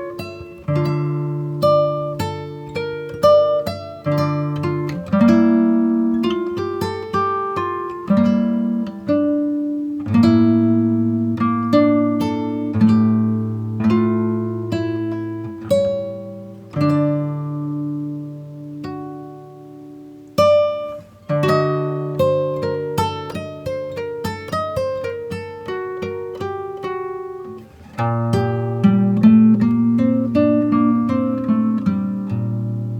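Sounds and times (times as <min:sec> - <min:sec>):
acoustic guitar picking: 0:00.0 - 0:32.9.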